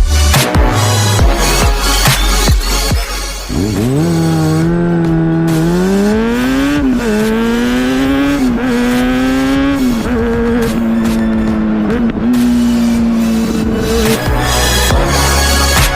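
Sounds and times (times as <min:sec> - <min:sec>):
motorcycle engine accelerating: 0:00.5 - 0:15.9.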